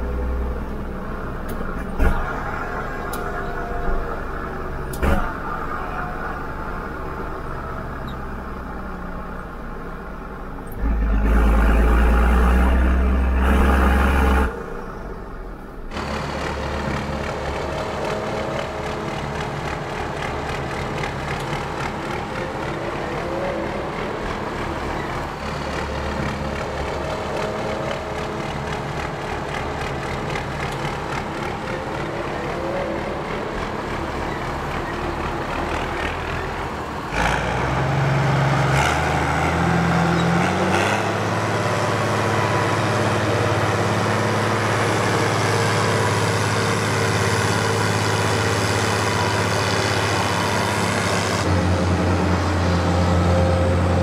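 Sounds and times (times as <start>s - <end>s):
diesel machinery running: 0.0s - 54.0s
low engine drone: 0.0s - 54.0s.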